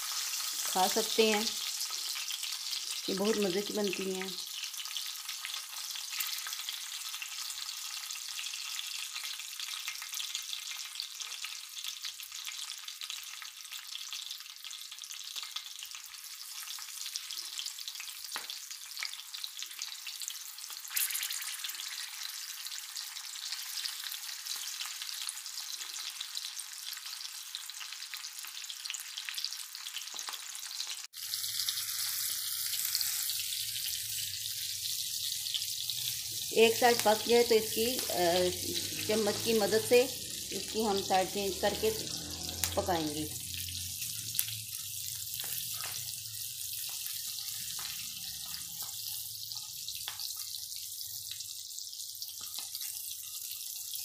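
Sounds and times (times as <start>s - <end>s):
chilies sizzling in hot oil: 0.0s - 54.0s.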